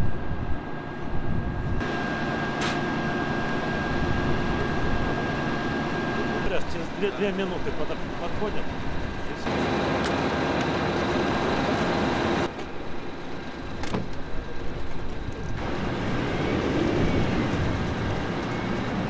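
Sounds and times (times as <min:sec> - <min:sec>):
vehicle engines rumbling: 0:00.8 - 0:19.0.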